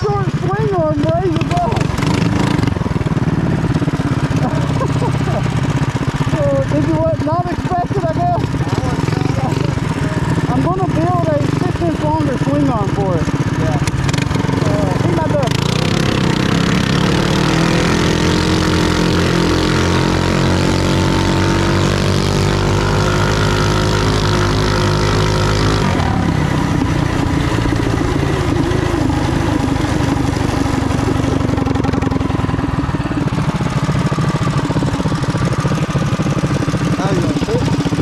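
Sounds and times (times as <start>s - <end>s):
mini bike engine running hard: 0.0s - 38.0s.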